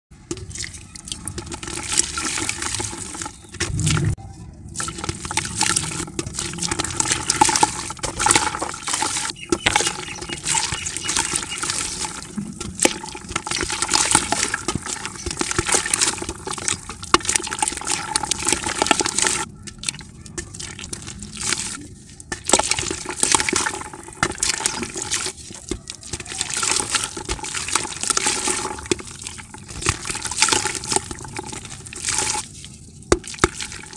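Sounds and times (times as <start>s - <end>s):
crumbs falling into water: 0.3s - 4.0s, 4.8s - 33.9s.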